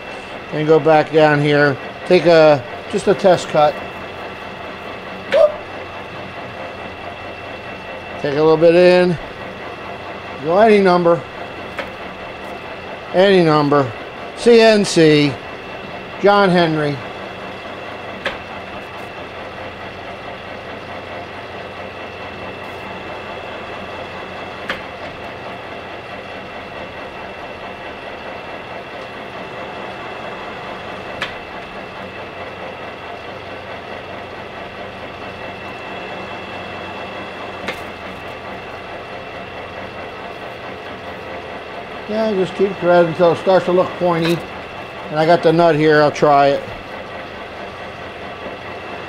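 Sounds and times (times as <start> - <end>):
lathe humming and whining: 0.0 - 49.0.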